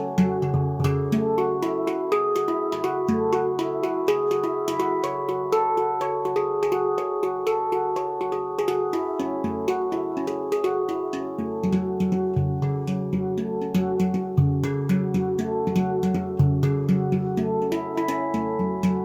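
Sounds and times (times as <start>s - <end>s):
steel hand drum melody: 0.0s - 19.0s.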